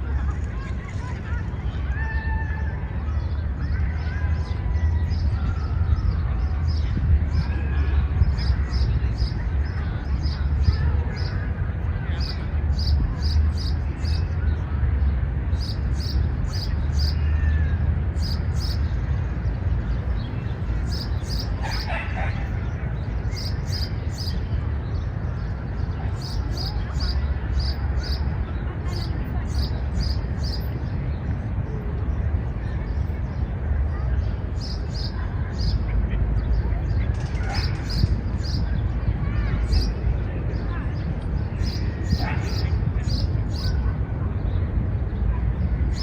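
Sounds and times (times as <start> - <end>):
distant city traffic: 0.0 - 46.0
faint far-off voices: 0.0 - 46.0.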